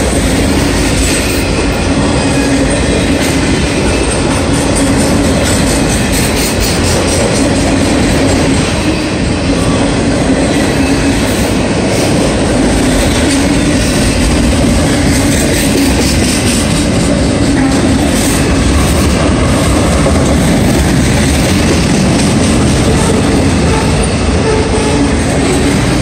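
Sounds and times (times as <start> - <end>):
steel train wheels rolling on rails: 0.0 - 26.0.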